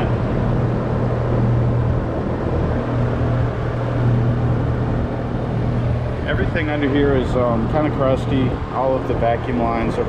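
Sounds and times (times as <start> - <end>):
constant rumble: 0.0 - 10.0
low mechanical hum: 0.0 - 10.0.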